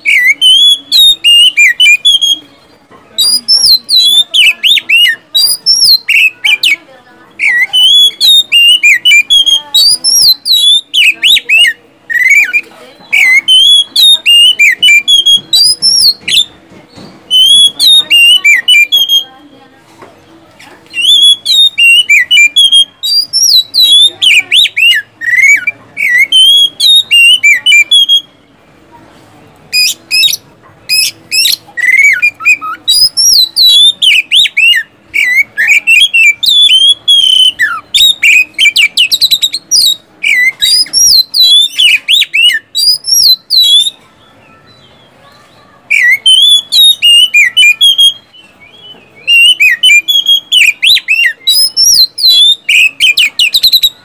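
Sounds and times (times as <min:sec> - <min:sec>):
bird singing whistled phrases: 0:00.0 - 0:02.5, 0:03.2 - 0:06.8, 0:07.4 - 0:16.6, 0:17.3 - 0:19.5, 0:20.9 - 0:28.5, 0:29.7 - 0:54.0.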